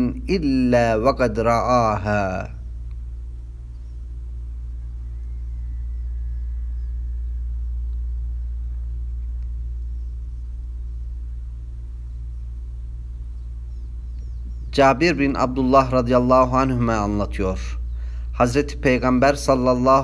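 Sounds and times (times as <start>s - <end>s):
low droning hum: 0.0s - 20.0s
faint high chirps: 1.6s - 16.0s, 16.6s - 19.1s.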